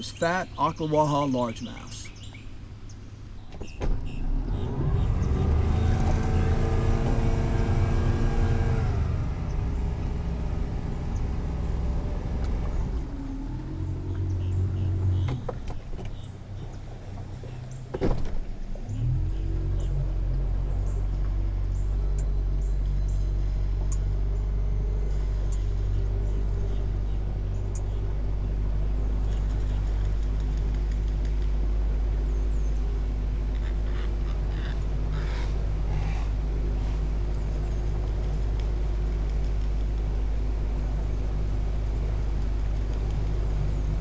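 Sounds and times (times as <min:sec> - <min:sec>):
outboard motor droning: 0:04.1 - 0:44.0.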